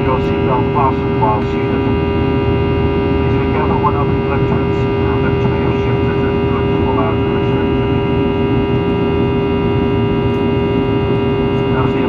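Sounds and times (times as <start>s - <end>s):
jet engines droning in cabin: 0.0s - 12.0s.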